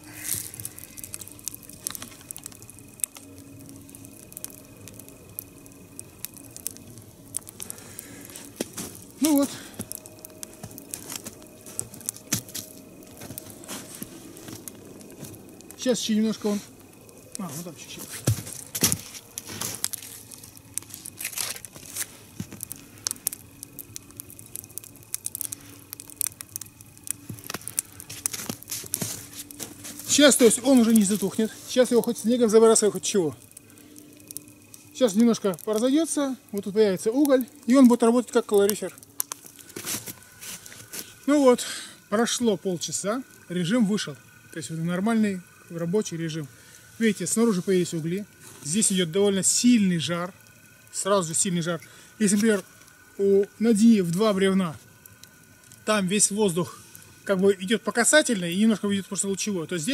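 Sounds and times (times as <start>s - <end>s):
log fire crackling: 0.0s - 59.9s.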